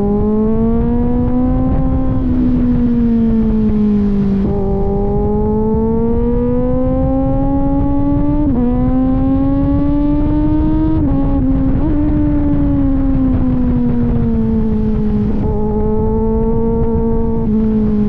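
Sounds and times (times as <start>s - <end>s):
motorcycle engine accelerating: 0.0s - 18.0s
wind rush: 0.0s - 18.0s.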